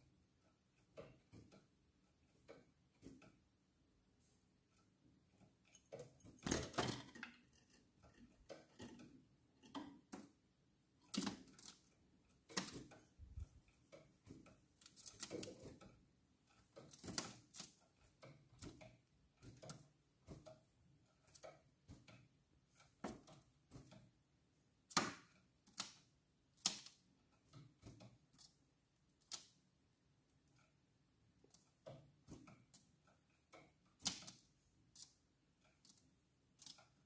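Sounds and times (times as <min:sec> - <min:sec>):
bird hopping and pecking in cage: 0:00.0 - 0:37.0.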